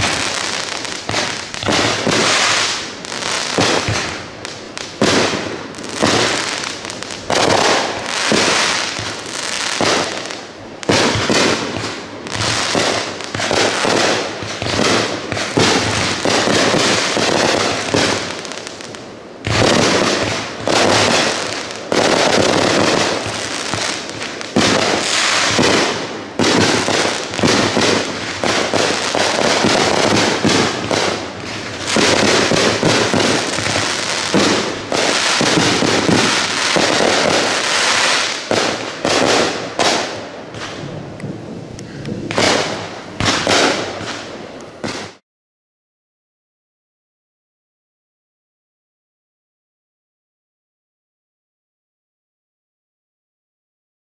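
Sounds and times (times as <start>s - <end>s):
fireworks bangs: 0.0s - 45.2s.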